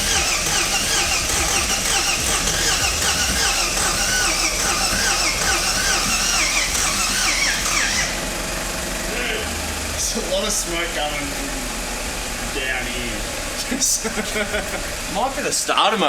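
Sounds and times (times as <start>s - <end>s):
engine cranking on starter motor: 0.0s - 16.0s.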